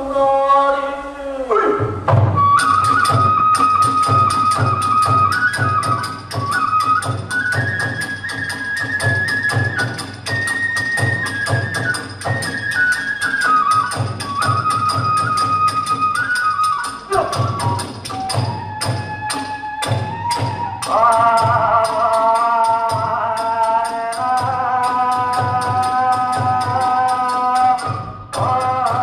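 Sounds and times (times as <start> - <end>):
bamboo flute melody: 0.0 - 29.0
fast drum beats: 1.8 - 29.0.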